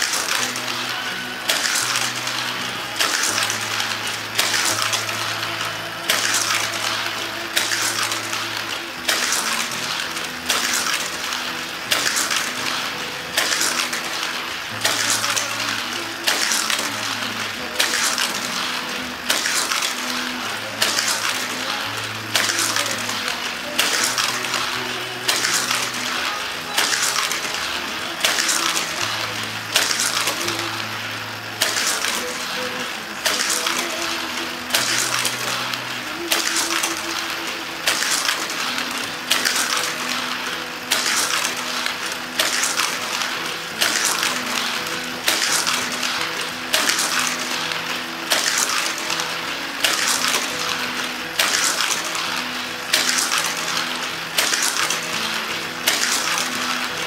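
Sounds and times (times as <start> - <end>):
toy track booster motors humming: 0.0 - 57.0.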